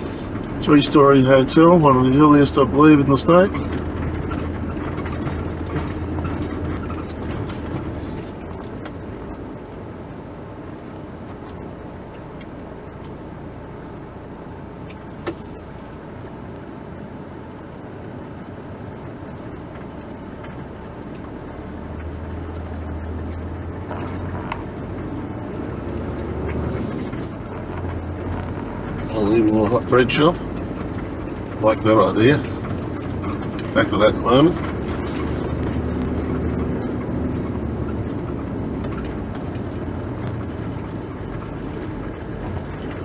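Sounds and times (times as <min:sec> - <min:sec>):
car engine hum from inside: 0:00.0 - 0:43.0
road noise: 0:00.0 - 0:43.0.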